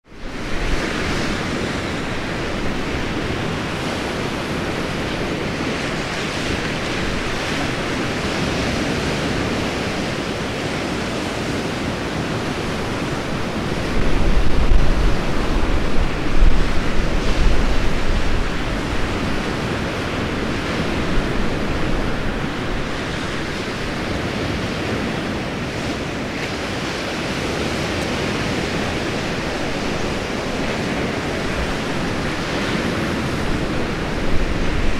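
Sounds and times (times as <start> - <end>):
wind buffeting microphone: 0.0 - 34.9
sea surf hissing: 0.2 - 34.9.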